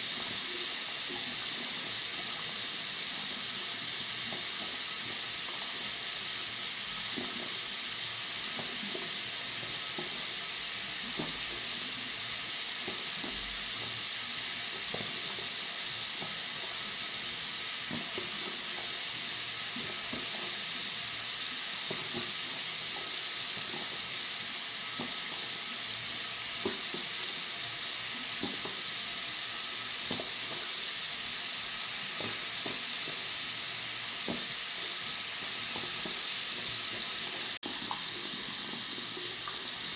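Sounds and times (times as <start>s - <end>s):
water running from tap into basin: 0.0s - 39.9s.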